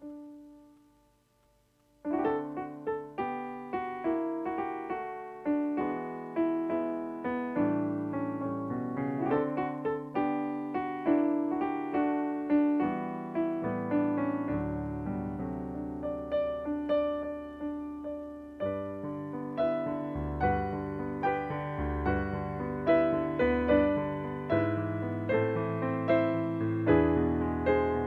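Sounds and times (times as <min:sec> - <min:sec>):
solo piano playing: 0:00.0 - 0:01.2, 0:02.0 - 0:28.0.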